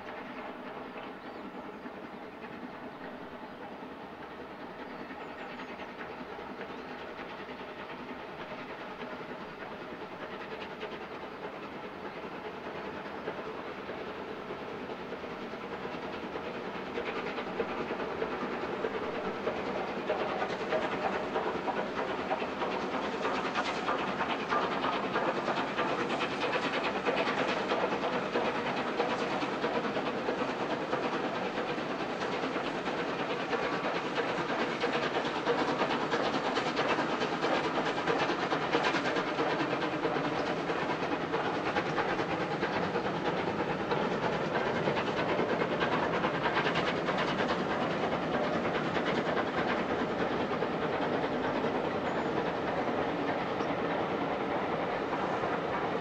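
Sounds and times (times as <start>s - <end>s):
steam locomotive exhaust: 0.0s - 56.0s
train running on track: 0.0s - 56.0s.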